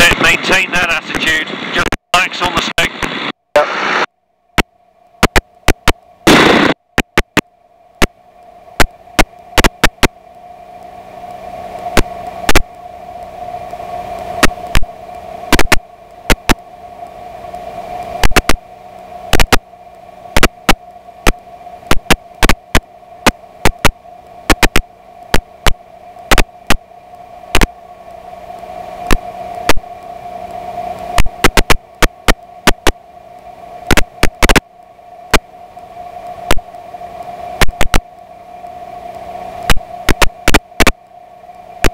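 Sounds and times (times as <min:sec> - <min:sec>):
crackling static clicks: 0:00.0 - 0:41.9
steady hum and hiss: 0:00.0 - 0:41.9.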